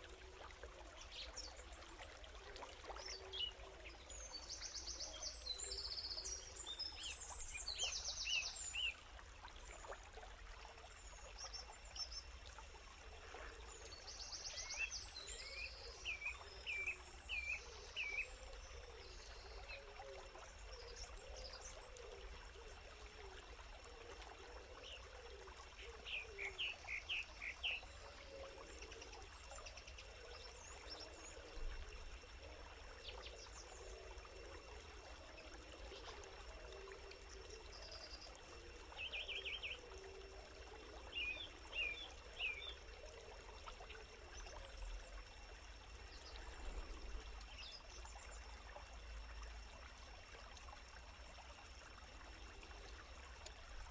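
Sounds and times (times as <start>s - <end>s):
stream trickling: 0.0s - 53.9s.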